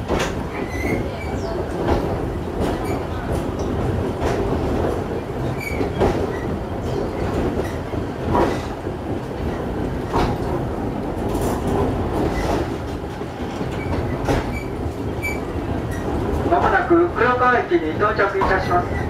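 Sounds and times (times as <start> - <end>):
rail clacks: 0.0 - 19.0
steel wheels rumbling on rails: 0.0 - 19.0.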